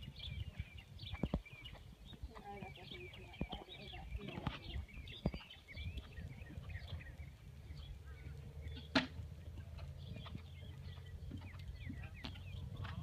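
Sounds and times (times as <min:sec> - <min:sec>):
birds chirping and singing: 0:00.0 - 0:13.0
low wind rumble on microphone: 0:00.0 - 0:13.0.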